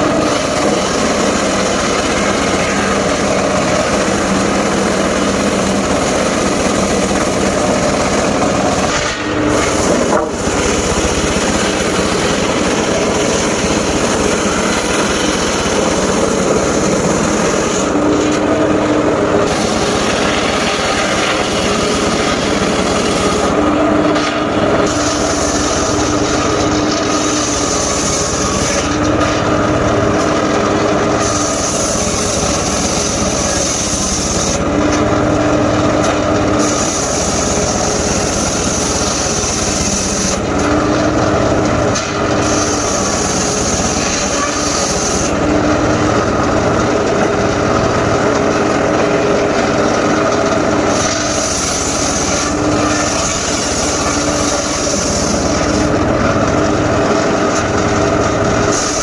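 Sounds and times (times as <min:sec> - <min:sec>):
sawmill sawing logs: 0:00.0 - 0:59.0.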